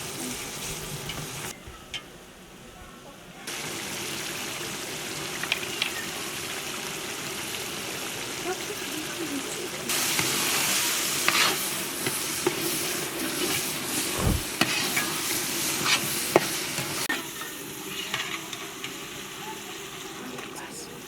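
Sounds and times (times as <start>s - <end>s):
food sizzling in a pan: 0.0s - 1.5s, 3.5s - 21.0s.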